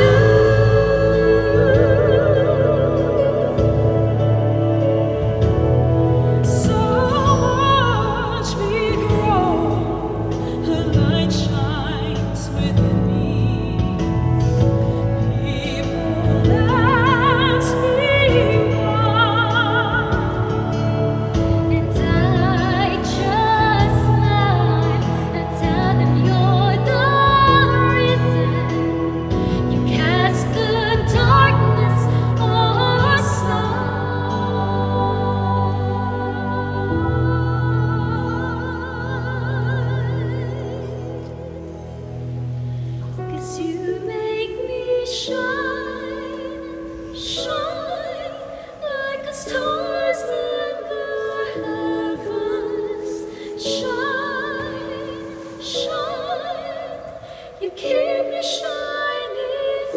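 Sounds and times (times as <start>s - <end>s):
women singing a sacred song: 0.0s - 41.6s, 43.3s - 59.9s
sustained instrumental accompaniment: 0.0s - 58.4s.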